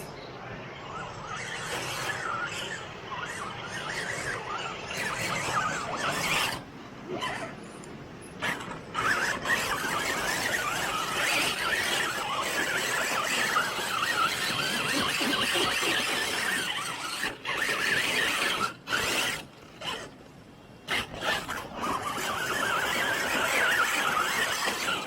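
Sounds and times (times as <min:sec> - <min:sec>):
toy truck electric motors whining: 0:00.0 - 0:25.0.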